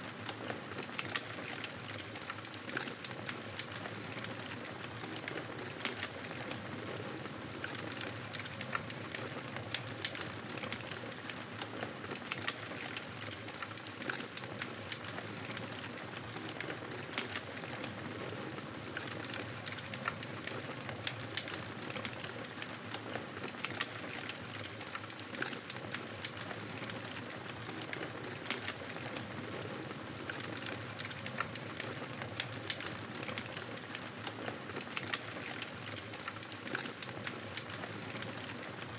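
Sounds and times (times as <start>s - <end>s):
wood fire crackling and popping: 0.1s - 38.9s.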